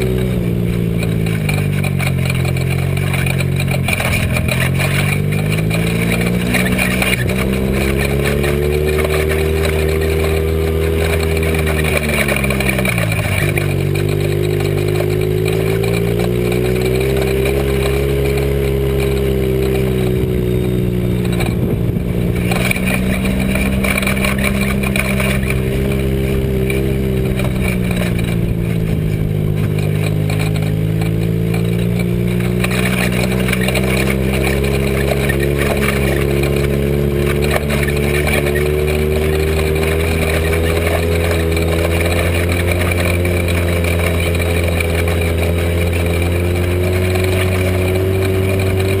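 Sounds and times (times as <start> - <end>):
dune buggy engine running: 0.0 - 49.0.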